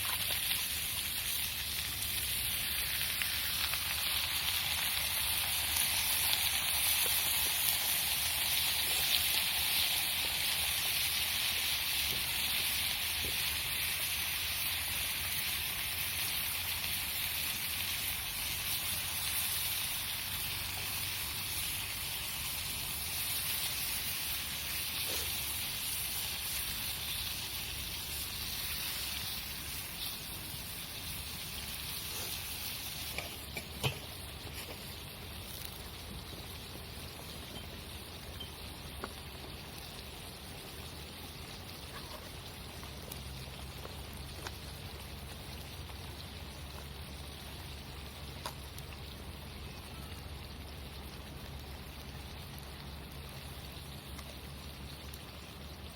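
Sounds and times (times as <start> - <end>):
food sizzling in a pan: 0.0 - 55.9.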